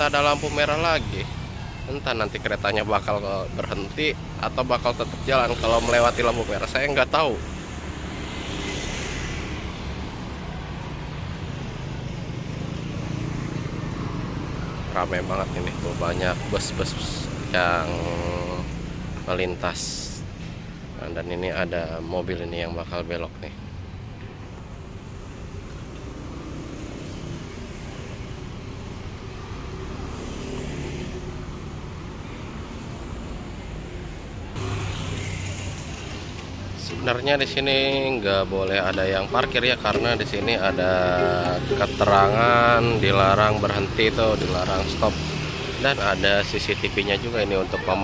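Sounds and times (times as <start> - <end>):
motorbike passing: 4.5 - 20.9, 23.8 - 48.0.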